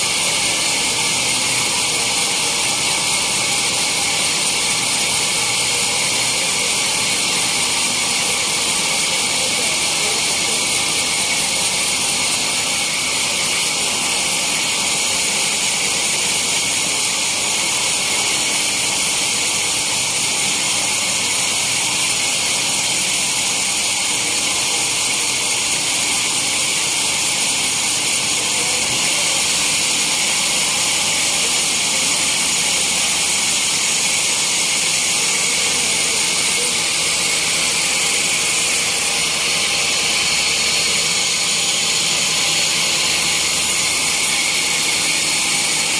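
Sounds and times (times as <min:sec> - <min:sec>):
sawmill saw running: 0:00.0 - 0:45.9.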